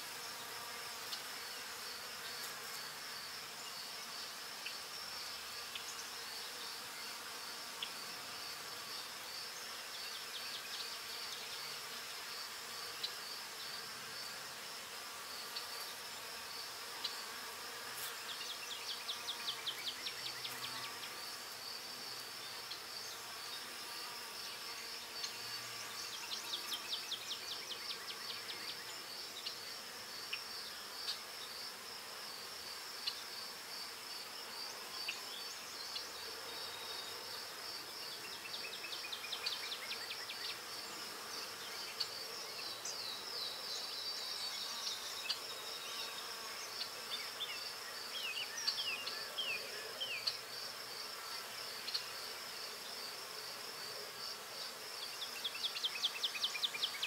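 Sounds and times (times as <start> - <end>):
insect trill: 0.2 - 57.0.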